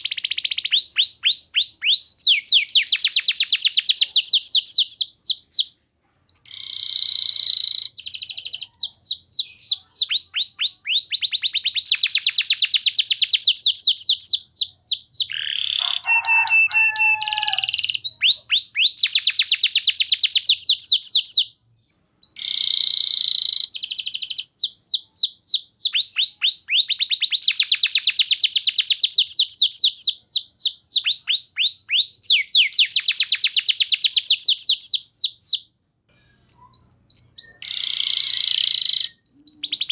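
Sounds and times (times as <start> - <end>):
canary singing trills: 0.0 - 5.7, 6.3 - 21.5, 22.2 - 35.7, 36.4 - 39.9.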